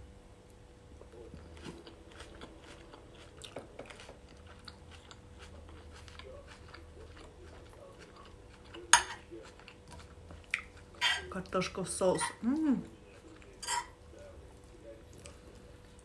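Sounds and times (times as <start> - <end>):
chewing food: 0.5 - 16.0.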